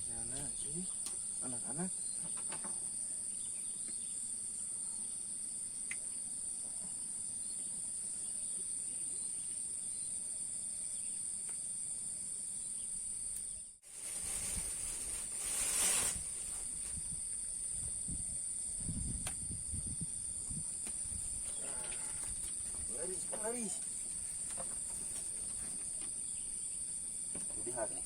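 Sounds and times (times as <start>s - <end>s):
insect chorus: 0.0s - 28.0s.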